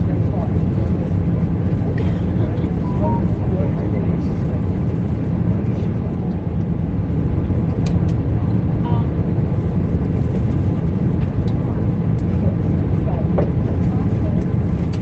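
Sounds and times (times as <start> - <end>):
aircraft cabin engine roar: 0.0 - 15.0.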